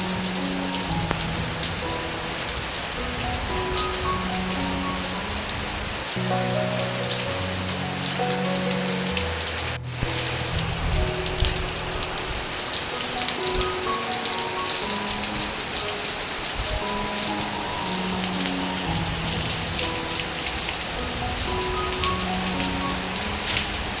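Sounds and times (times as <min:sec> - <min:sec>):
heavy rain falling: 0:00.0 - 0:24.0
simple melody of short notes: 0:00.0 - 0:24.0.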